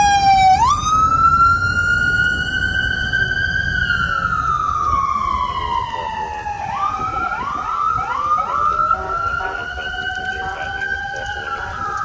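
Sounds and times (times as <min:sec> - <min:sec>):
fire engine siren wailing: 0:00.0 - 0:12.0
lower siren tone: 0:00.0 - 0:12.0.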